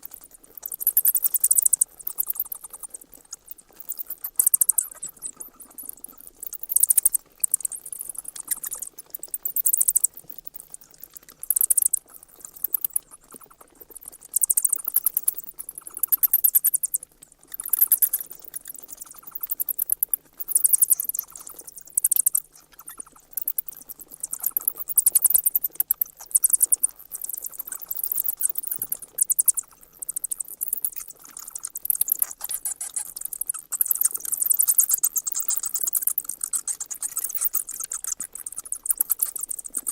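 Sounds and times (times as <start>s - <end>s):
bats squeaking: 0.6s - 3.0s, 3.8s - 10.4s, 11.5s - 13.6s, 14.3s - 17.0s, 17.6s - 39.9s.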